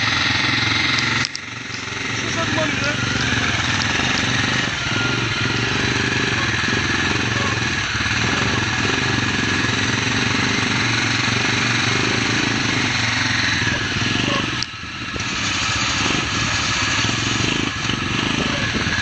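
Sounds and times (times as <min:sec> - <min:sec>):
atv engine running steadily: 0:00.0 - 0:19.0.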